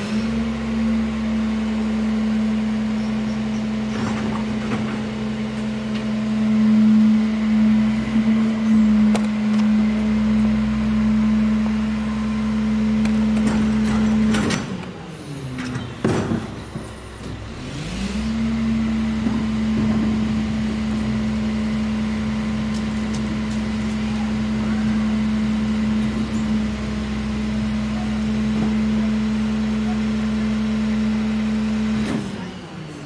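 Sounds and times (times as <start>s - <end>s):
garbage truck diesel engine: 0.0s - 33.0s.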